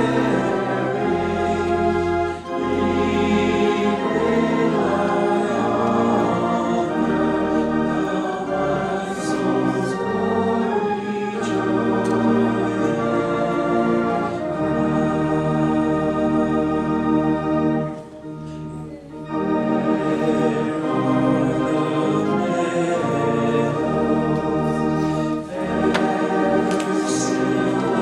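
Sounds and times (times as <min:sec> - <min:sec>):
organ chords: 0:00.0 - 0:28.0.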